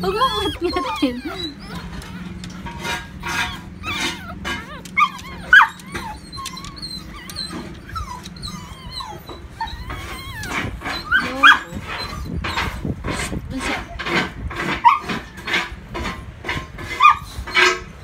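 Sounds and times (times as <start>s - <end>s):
puppy squeaking and whimpering: 0.0s - 15.8s.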